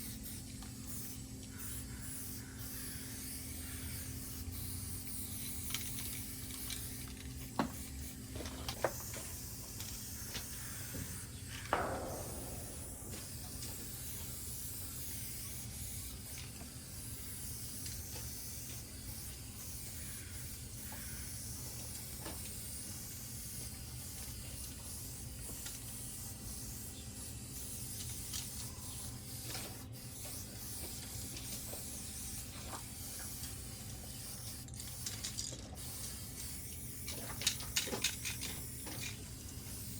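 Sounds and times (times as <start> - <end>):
aerosol spray can hissing: 0.0 - 39.9.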